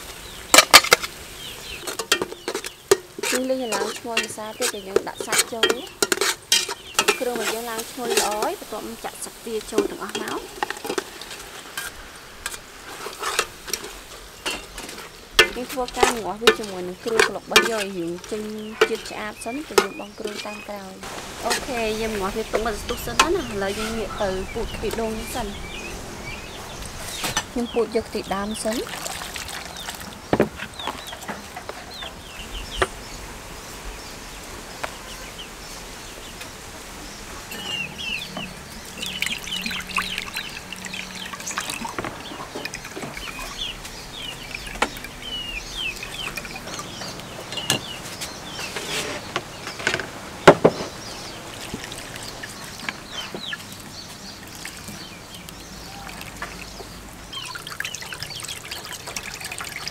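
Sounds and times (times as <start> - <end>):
chickens clucking: 0.0 - 28.8, 36.2 - 59.9
liquid splashing and trickling: 0.0 - 33.2, 36.9 - 49.0, 50.2 - 59.9.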